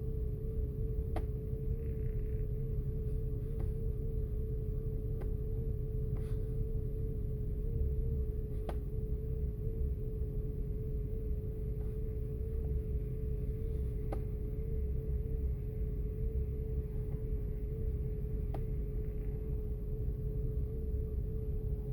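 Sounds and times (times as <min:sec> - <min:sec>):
engine uneven low rumble: 0:00.0 - 0:21.9
engine whine: 0:00.0 - 0:21.9.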